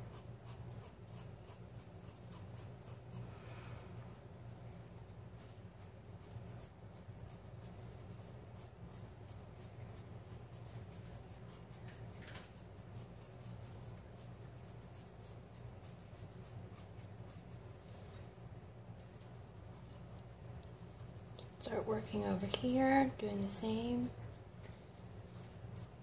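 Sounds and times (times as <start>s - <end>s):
pencil scratching on paper: 0.0s - 3.3s, 5.3s - 17.6s, 19.3s - 20.2s, 20.8s - 26.0s.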